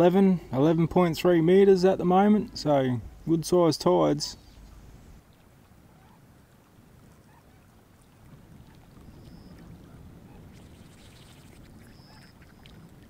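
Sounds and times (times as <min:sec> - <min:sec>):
tide water rushing: 0:00.0 - 0:13.0.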